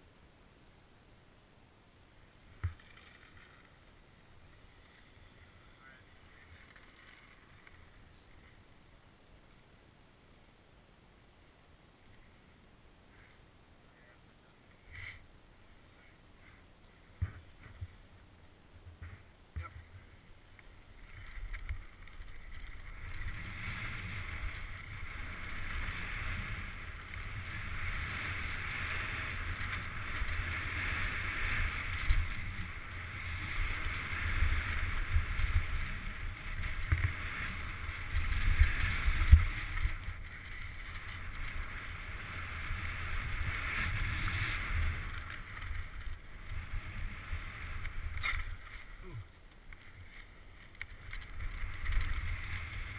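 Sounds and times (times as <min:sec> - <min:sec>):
bike tyres on dirt and gravel: 0:02.5 - 0:08.9, 0:15.9 - 0:52.9.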